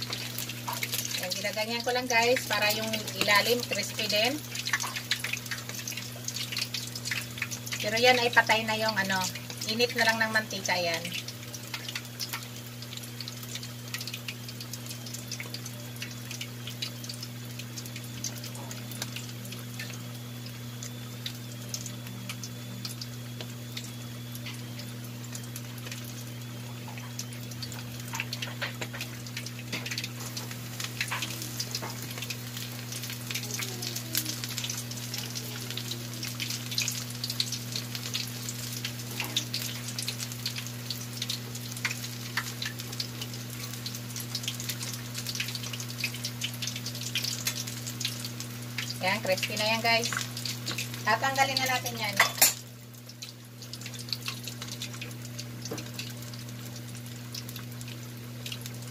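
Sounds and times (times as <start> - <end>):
oil crackling and popping: 0.0 - 58.9
steady low hum: 0.0 - 58.9.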